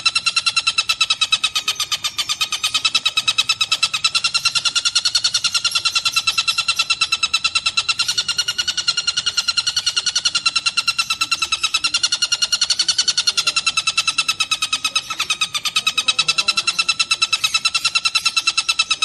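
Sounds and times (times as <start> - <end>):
kingfisher calling rapidly: 0.0 - 19.0.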